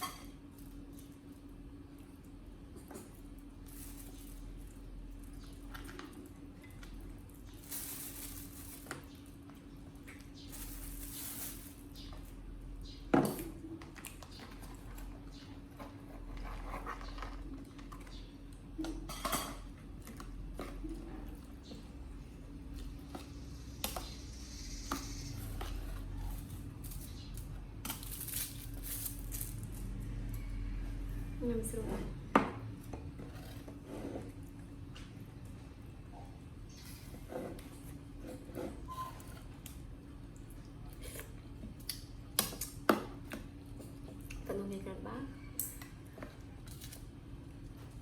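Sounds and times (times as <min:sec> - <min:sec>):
steady low hum: 0:00.0 - 0:38.8.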